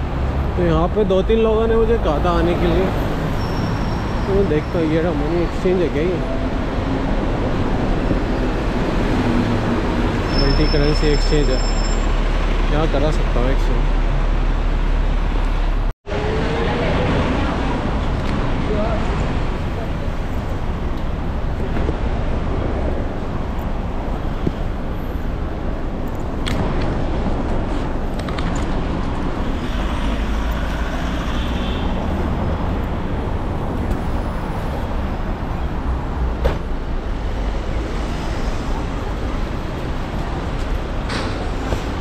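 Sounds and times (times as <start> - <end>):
passing vehicles: 0.0 - 42.0.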